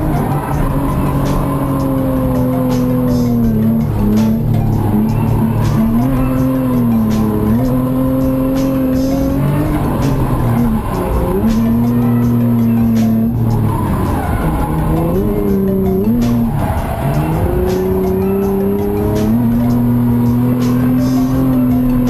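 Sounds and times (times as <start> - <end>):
car engine revving high: 0.0 - 22.0
music: 0.0 - 22.0
tyres squealing: 0.0 - 22.0.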